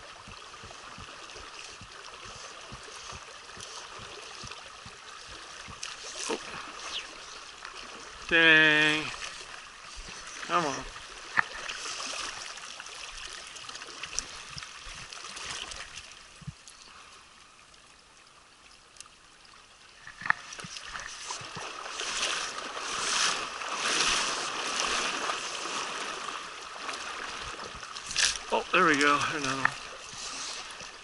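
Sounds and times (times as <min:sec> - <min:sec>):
stream rushing over rocks: 0:00.0 - 0:16.4, 0:19.9 - 0:31.0.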